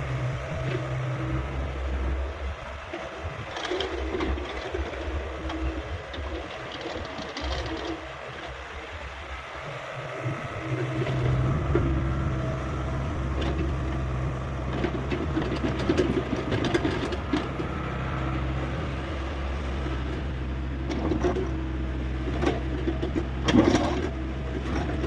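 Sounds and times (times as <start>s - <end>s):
excavator diesel engine drone: 0.0s - 25.0s.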